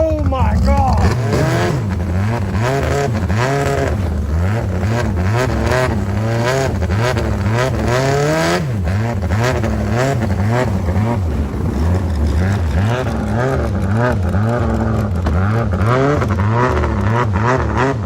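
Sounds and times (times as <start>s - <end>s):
racing boat engine revving: 0.0s - 18.0s.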